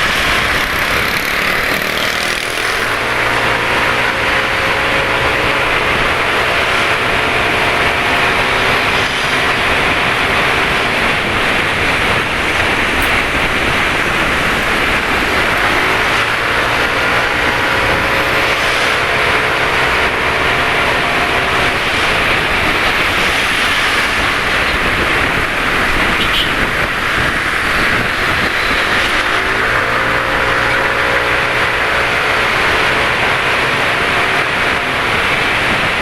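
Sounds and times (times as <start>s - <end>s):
motorcycle engines humming: 0.0s - 36.0s
wind and road noise: 0.0s - 36.0s.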